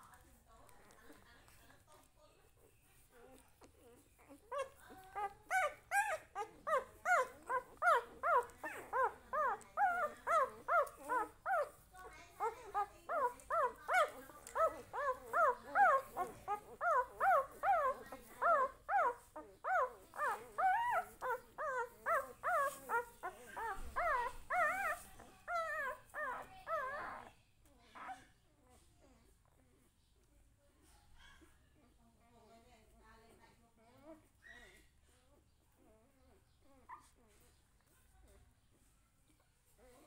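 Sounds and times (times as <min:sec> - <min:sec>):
puppy whining: 0:02.4 - 0:30.4, 0:33.7 - 0:40.0.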